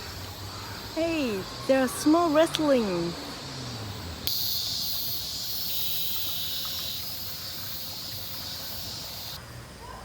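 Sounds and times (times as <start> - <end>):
cicadas buzzing: 0.0 - 9.4.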